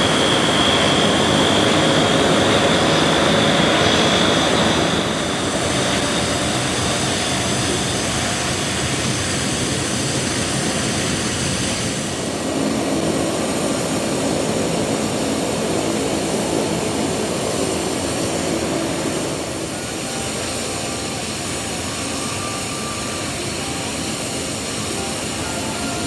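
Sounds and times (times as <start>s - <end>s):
aircraft engine rumble: 0.0s - 26.0s.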